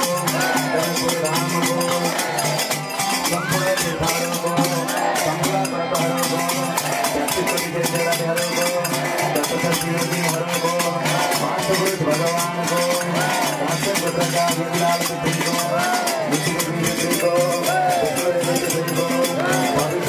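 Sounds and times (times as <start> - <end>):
hands clapping: 0.0 - 20.0
ringing bell-like percussion: 0.0 - 20.0.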